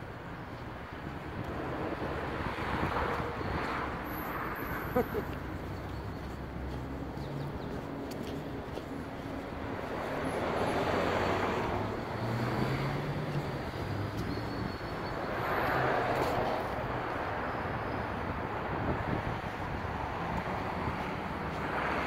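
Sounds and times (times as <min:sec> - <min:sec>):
city traffic hum: 0:00.0 - 0:22.0
vehicles passing: 0:00.0 - 0:22.0.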